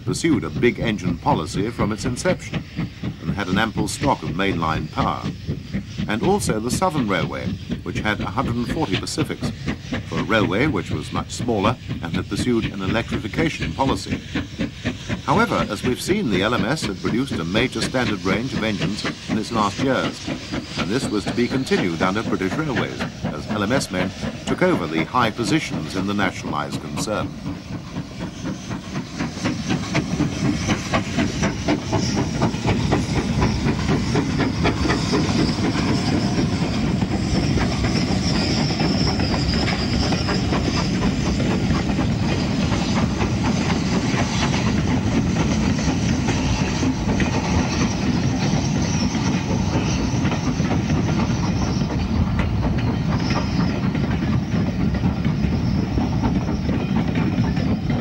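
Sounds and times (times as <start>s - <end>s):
steam hiss: 0.0s - 58.0s
steam locomotive exhaust beats: 0.0s - 58.0s
train coaches running on rails: 0.0s - 58.0s.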